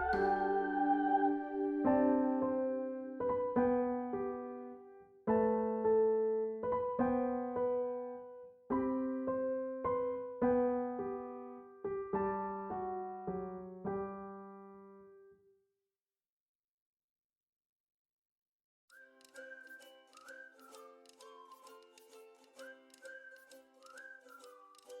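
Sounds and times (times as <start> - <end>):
gentle piano melody: 0.0 - 15.4, 19.0 - 25.0.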